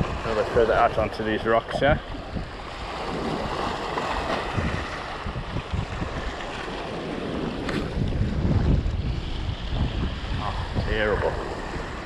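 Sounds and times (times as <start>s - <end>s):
surf washing against rocks: 0.0s - 12.0s
wind gusting over microphone: 0.0s - 12.0s.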